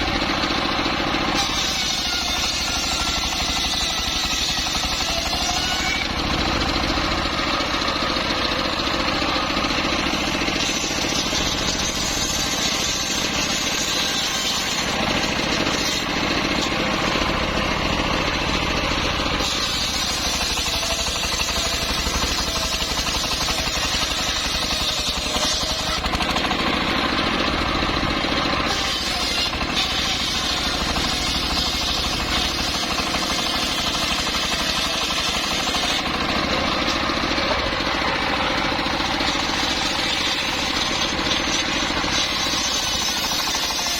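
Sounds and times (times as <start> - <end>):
engine-driven saw running: 0.0 - 43.9.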